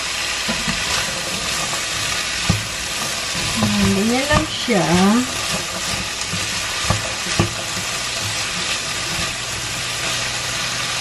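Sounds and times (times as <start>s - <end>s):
potatoes and meat sizzling in oil: 0.0s - 11.0s.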